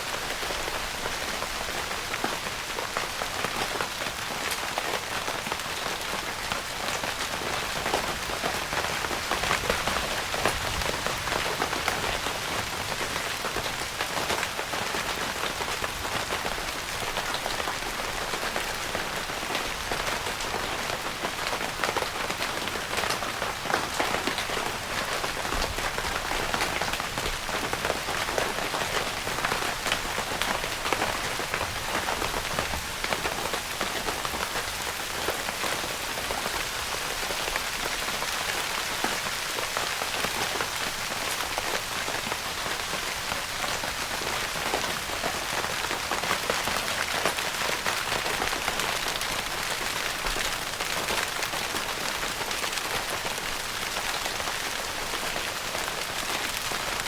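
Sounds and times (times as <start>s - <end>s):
rain pattering on tent fabric: 0.0s - 57.0s.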